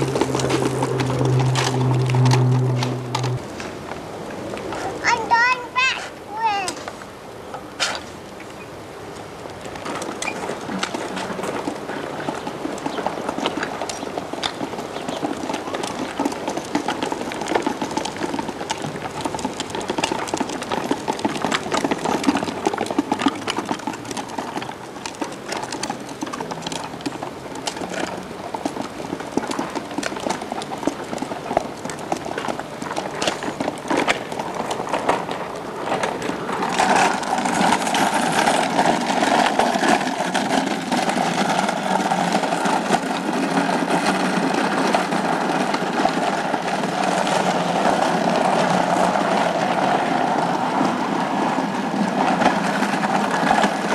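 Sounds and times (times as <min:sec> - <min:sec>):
go-kart wheels rumbling on paving: 0:00.0 - 0:53.9
plastic wheels rattling on paving: 0:00.0 - 0:53.9.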